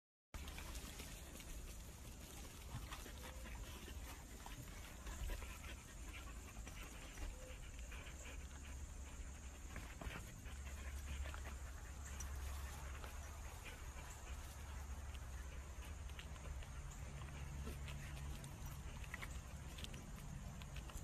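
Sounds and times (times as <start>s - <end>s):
dog panting: 0.4s - 21.0s.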